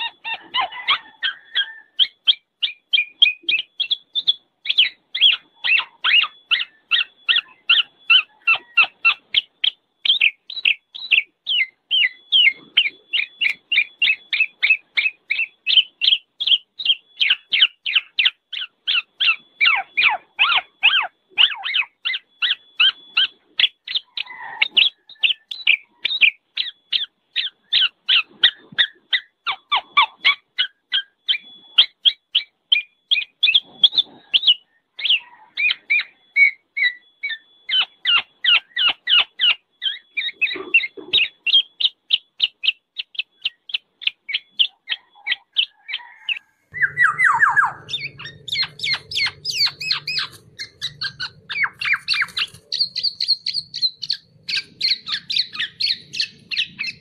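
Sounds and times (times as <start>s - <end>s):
bird calling: 0.0s - 57.0s.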